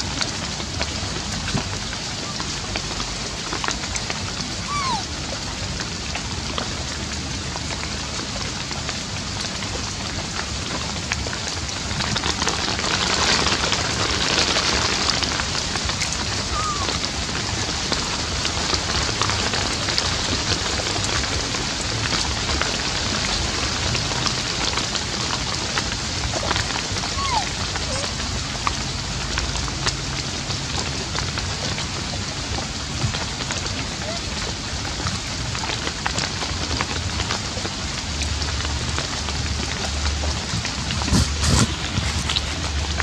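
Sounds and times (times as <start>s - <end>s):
rain hissing: 0.0s - 43.0s.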